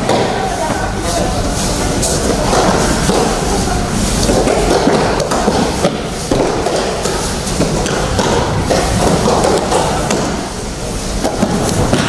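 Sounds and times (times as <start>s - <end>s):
people shuffling: 0.0s - 12.0s.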